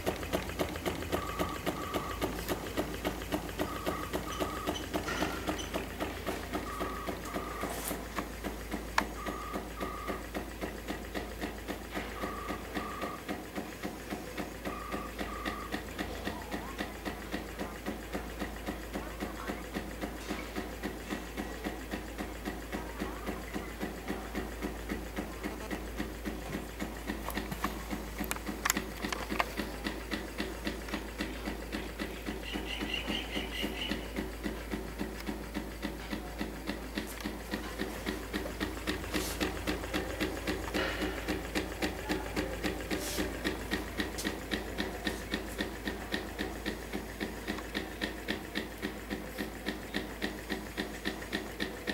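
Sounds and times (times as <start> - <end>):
stirling engine knocking: 0.0 - 51.9.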